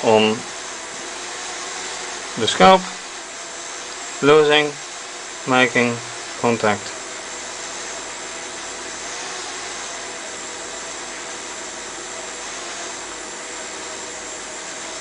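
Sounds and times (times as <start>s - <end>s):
small electric motor whirring: 0.0s - 15.0s.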